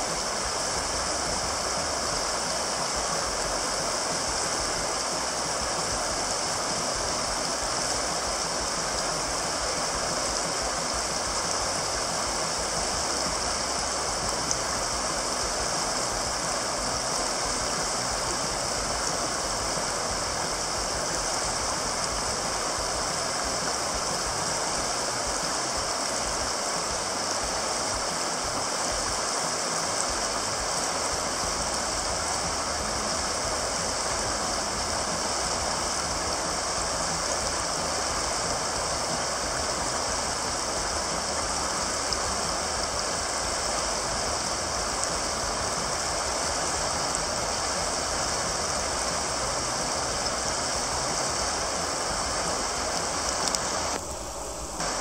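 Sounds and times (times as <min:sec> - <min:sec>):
river rapids rushing: 0:00.0 - 0:55.0.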